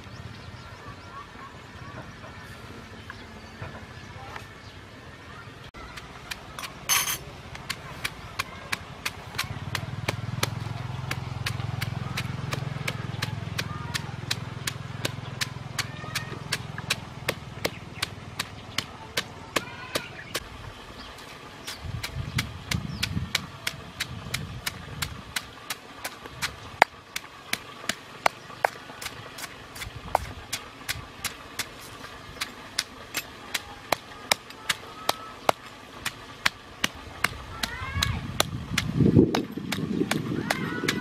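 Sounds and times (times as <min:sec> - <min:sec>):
pestle knocking in stone mortar: 0:05.9 - 0:20.4, 0:22.0 - 0:41.0.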